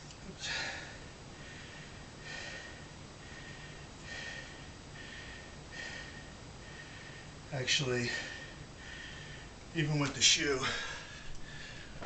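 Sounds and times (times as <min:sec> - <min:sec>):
man breathing hard through nose: 0:00.4 - 0:07.5, 0:08.1 - 0:09.6, 0:10.6 - 0:12.0.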